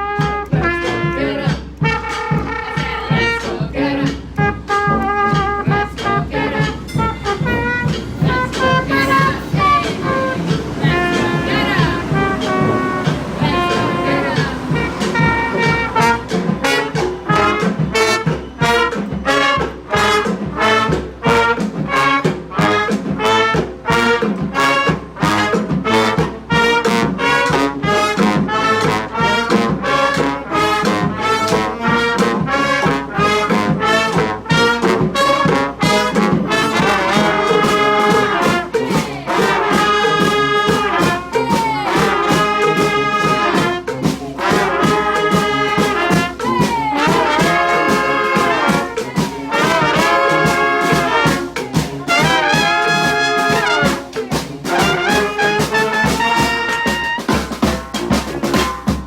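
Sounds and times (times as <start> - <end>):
brass band playing: 0.0 - 59.0
percussive beat: 0.0 - 59.0.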